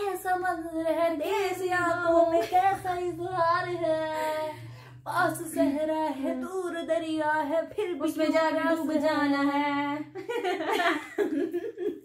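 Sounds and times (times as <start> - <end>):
woman singing unaccompanied: 0.0 - 10.2.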